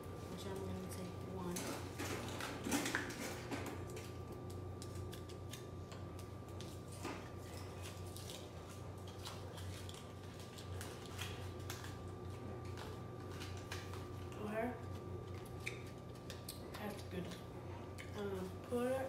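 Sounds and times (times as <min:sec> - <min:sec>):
low hum with high whine: 0:00.0 - 0:19.0.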